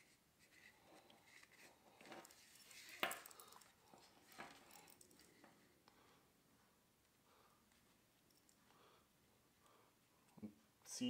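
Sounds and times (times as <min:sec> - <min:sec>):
soft rustling: 0:00.0 - 0:10.8.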